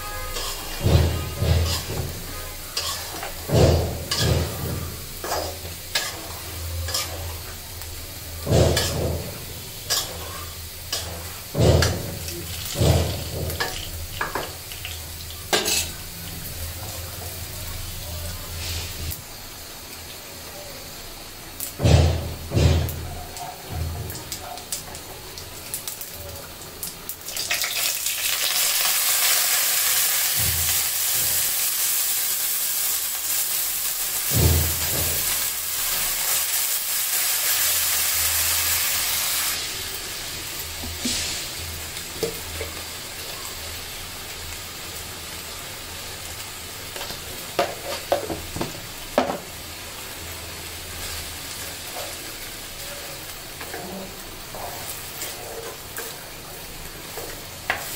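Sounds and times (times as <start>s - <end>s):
oil sizzling in wok: 0.0s - 57.9s.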